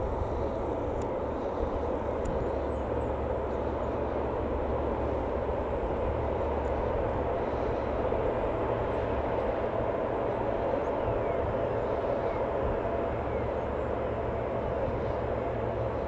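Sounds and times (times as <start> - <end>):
turboprop engines droning: 0.0 - 16.0.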